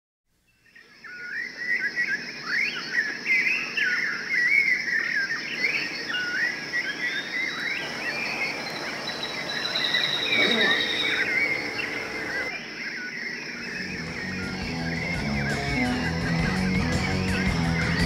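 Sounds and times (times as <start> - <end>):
steady high hiss: 0.4 - 18.0
high warbling animal calls: 3.4 - 18.0.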